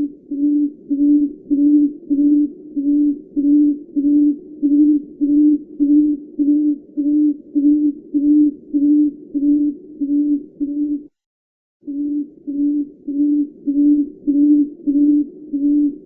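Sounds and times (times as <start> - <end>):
bird calling low hoots: 0.0 - 11.1, 11.8 - 16.0.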